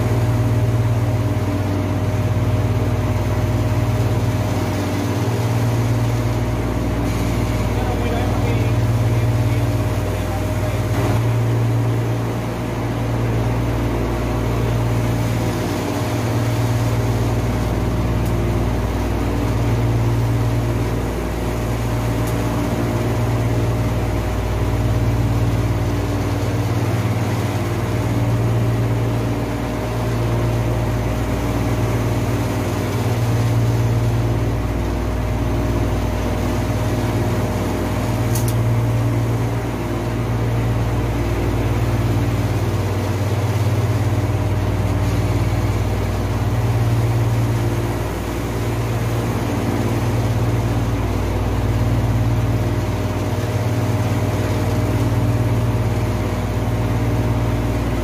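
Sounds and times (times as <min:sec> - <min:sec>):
air conditioning machinery hum: 0:00.0 - 0:58.0.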